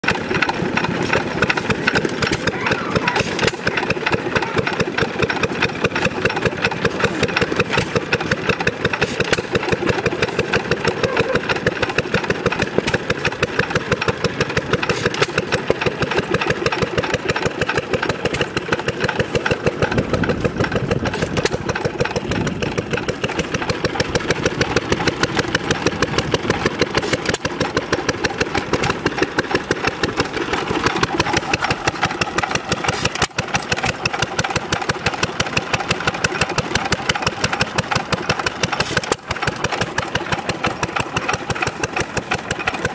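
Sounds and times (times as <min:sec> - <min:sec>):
deeper engine running sound: 0:00.0 - 0:42.9
stationary engines running: 0:00.0 - 0:42.9.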